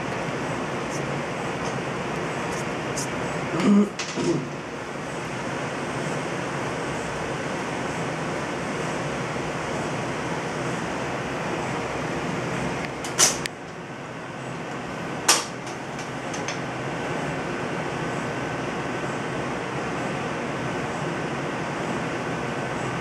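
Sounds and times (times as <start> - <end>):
steady rushing room noise: 0.0 - 23.0.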